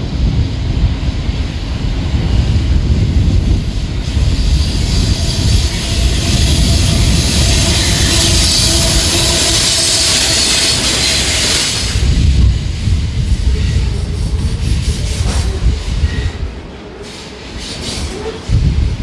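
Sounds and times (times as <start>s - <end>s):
steel wheels hissing on rail: 0.0s - 19.0s
train rumbling past: 0.0s - 19.0s.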